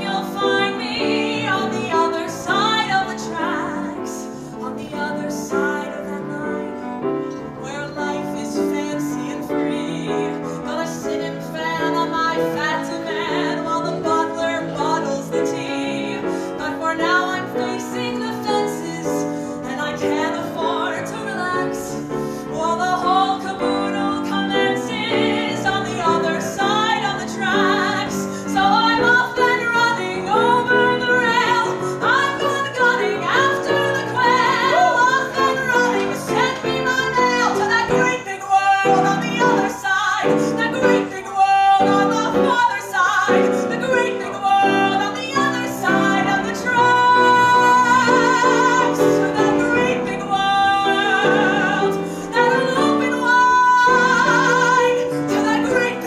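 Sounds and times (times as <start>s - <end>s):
piano accompaniment: 0.0s - 56.0s
woman singing with vibrato: 0.0s - 56.0s.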